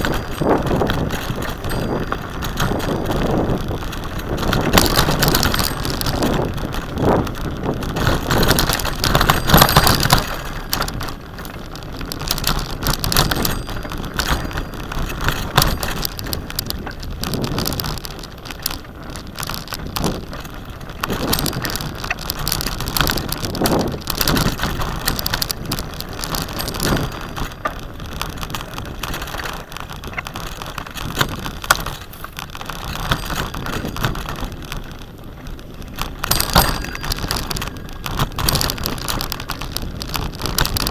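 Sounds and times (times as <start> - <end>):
bicycle rattling over bumps: 0.0 - 40.9.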